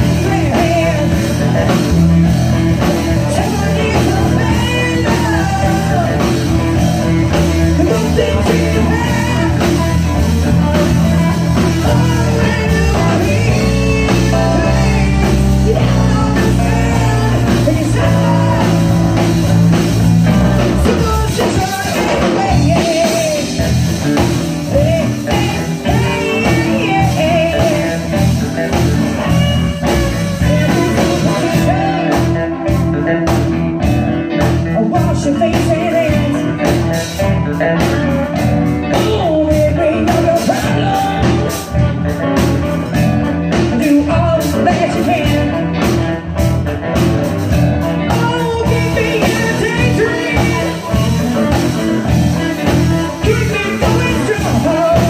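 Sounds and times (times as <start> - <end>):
bass: 0.0 - 55.0
drums: 0.0 - 55.0
electric guitars: 0.0 - 55.0
keyboard: 0.0 - 55.0
person singing: 0.0 - 55.0.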